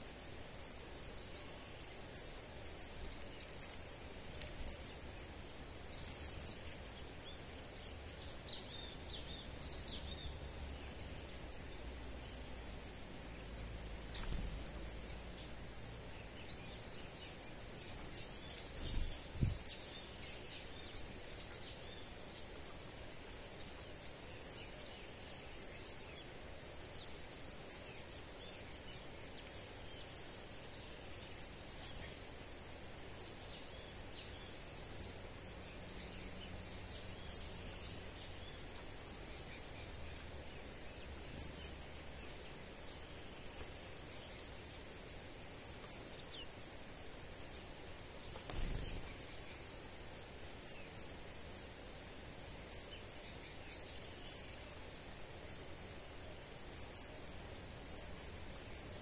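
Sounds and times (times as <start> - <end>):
small birds high chirps: 0.0 - 59.0
steady high hiss: 0.0 - 59.0.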